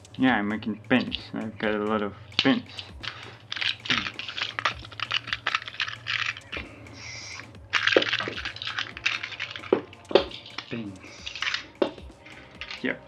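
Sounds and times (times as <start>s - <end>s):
pin badges clicking and rattling: 1.0s - 13.0s
plastic bag crinkling: 2.3s - 13.0s.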